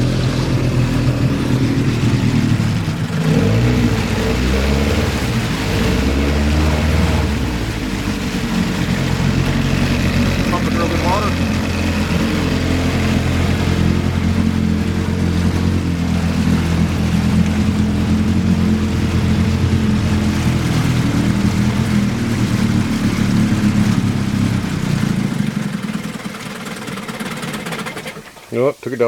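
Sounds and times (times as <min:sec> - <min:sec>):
outboard motor running: 0:00.0 - 0:28.8.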